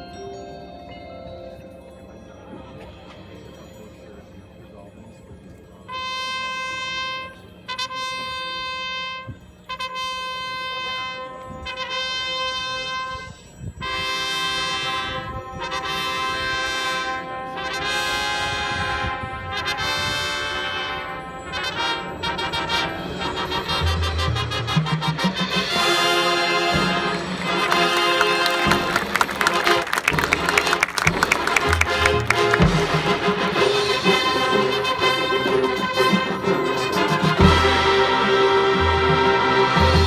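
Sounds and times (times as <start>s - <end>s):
marching band brass chords: 5.9s - 40.0s.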